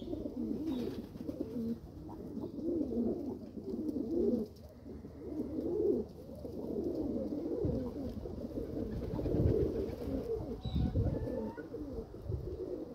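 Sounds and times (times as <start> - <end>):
pigeons cooing: 0.0 - 12.9.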